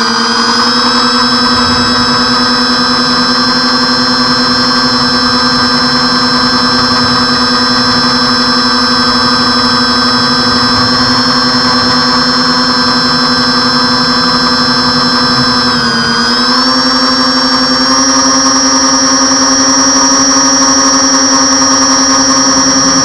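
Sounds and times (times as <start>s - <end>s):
model airplane motors humming: 0.0s - 23.0s.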